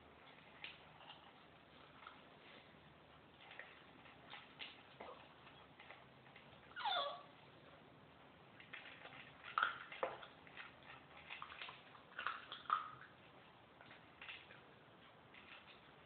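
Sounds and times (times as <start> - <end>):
dogs crunching kibble: 0.0 - 6.7, 8.5 - 16.0.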